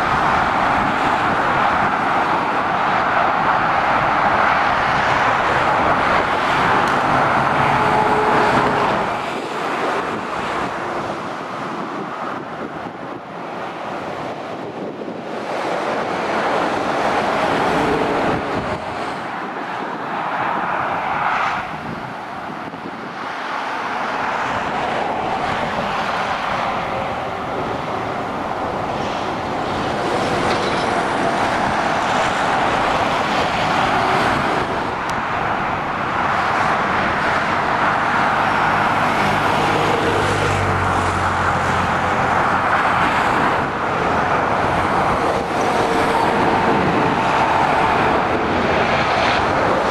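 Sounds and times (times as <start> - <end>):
motorway traffic rushing: 0.0 - 49.9.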